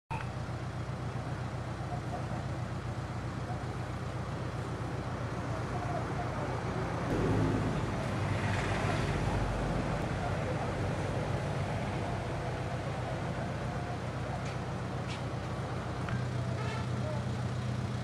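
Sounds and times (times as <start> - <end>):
minibus engine idling: 0.3 - 7.8, 8.5 - 18.0.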